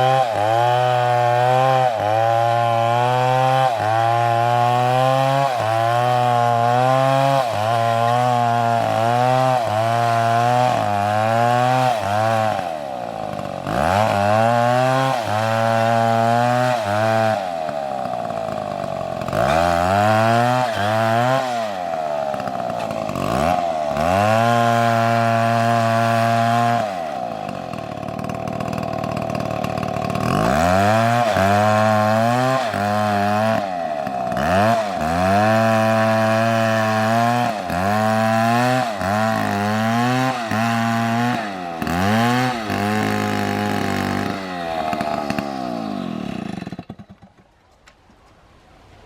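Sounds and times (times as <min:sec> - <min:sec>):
chainsaw revving: 0:00.0 - 0:47.5.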